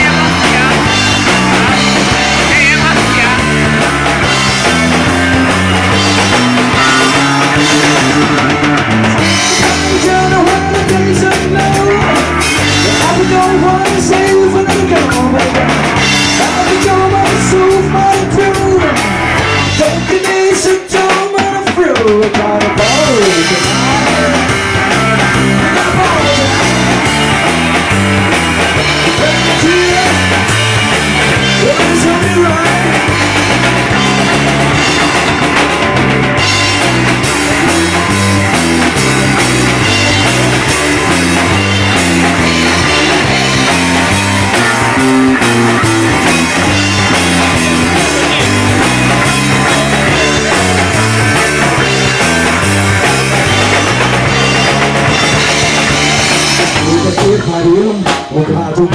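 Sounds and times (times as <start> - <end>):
drum kit beat: 0.0 - 58.9
loud rock music: 0.0 - 58.9
person singing: 0.0 - 58.9.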